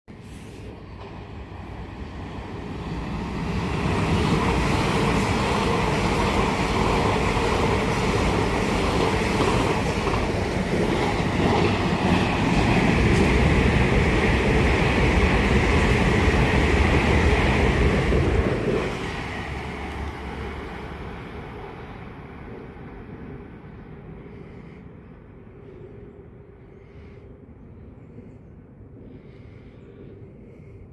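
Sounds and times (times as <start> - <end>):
train passing: 0.1 - 27.2.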